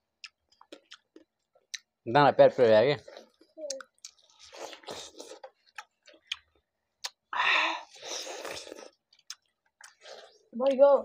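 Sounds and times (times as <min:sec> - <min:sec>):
people chewing watermelon: 0:00.2 - 0:02.0, 0:03.0 - 0:10.8.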